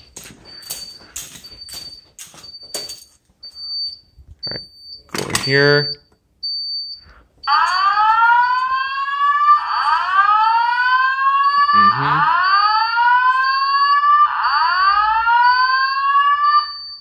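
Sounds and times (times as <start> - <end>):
fire alarm whoop tone: 0.4 - 4.1, 4.8 - 17.0.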